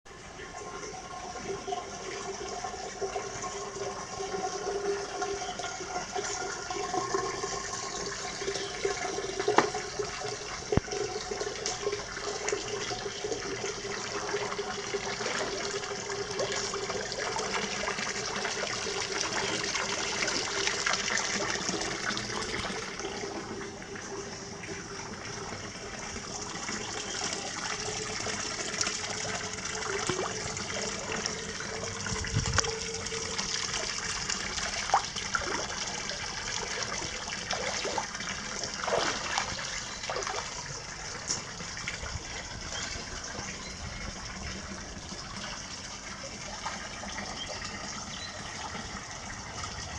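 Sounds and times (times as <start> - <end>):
water splashing from spout: 0.9 - 49.9.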